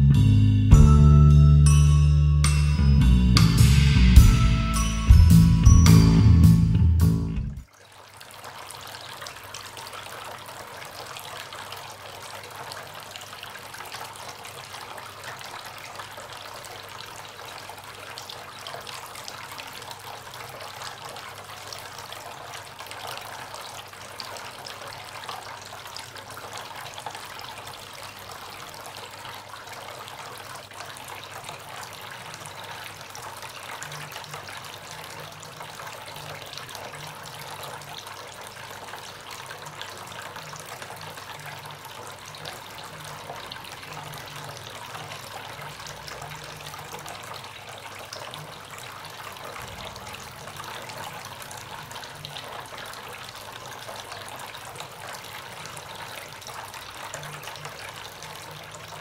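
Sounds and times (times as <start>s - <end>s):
fountain water trickling: 7.6s - 59.0s.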